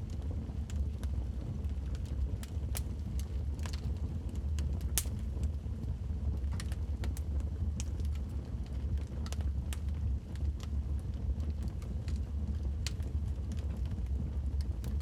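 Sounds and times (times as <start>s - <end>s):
logs crackling and popping: 0.0s - 5.6s, 6.2s - 15.0s
low fire rumble: 0.0s - 15.0s.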